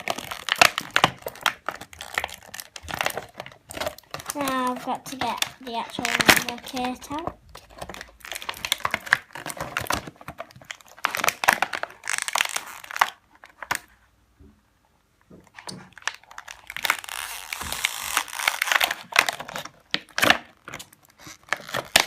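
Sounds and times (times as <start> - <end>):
plastic packaging crinkling: 0.0 - 14.0, 15.4 - 22.0.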